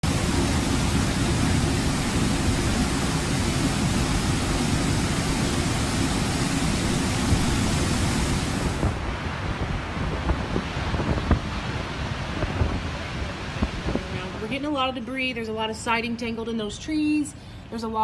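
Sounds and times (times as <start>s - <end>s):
driving rain: 0.0s - 14.8s
wind buffeting the microphone: 0.0s - 15.0s
hurricane-force wind: 0.0s - 16.2s.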